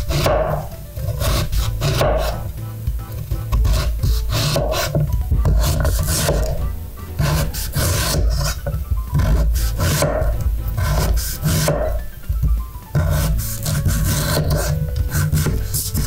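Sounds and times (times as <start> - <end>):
blade scraping potato skin: 0.0 - 12.1, 12.9 - 16.0.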